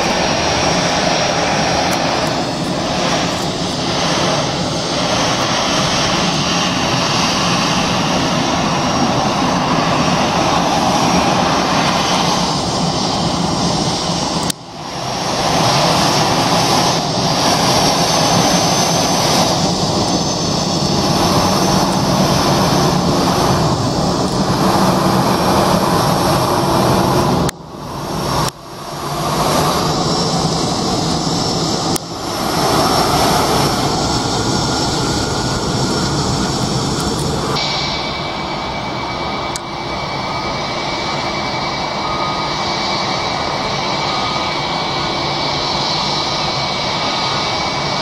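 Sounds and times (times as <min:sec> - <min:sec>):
jet engines running: 0:00.0 - 0:48.0.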